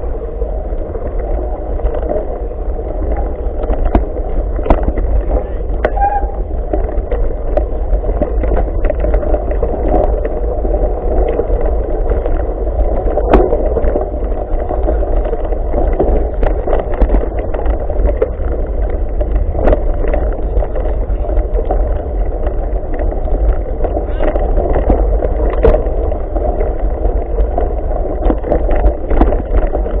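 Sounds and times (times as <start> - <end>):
bike rattling and knocking: 0.0 - 30.0
tyres rumbling on dirt: 0.0 - 30.0
wind on microphone: 0.0 - 30.0.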